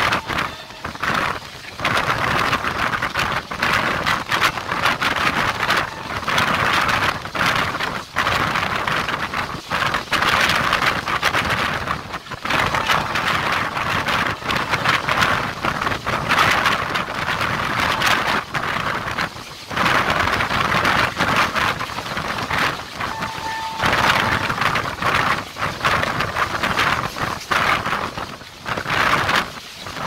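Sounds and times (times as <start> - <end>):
passenger train running: 0.0 - 30.0
rushing wind: 0.0 - 30.0.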